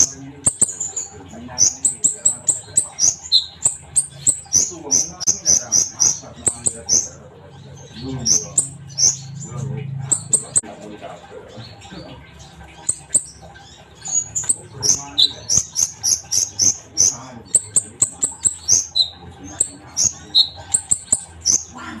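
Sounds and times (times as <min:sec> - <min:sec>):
sunbird chirping: 0:00.0 - 0:22.0.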